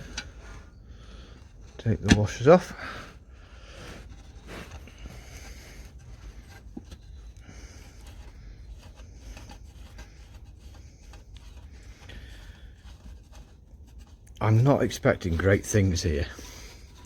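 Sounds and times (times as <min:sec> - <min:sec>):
rubbing and scraping handling: 0:00.0 - 0:17.0.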